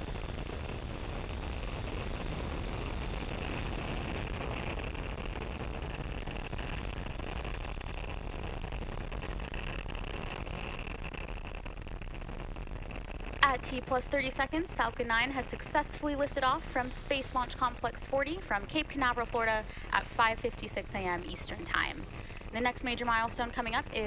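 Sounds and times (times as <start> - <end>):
rocket engines rumbling: 0.1 - 24.0.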